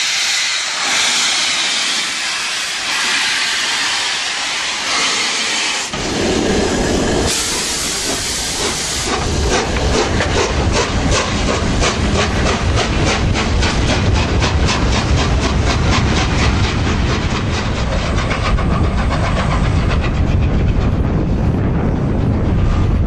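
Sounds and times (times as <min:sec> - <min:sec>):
steam locomotive exhaust chuffs: 0:00.0 - 0:23.0.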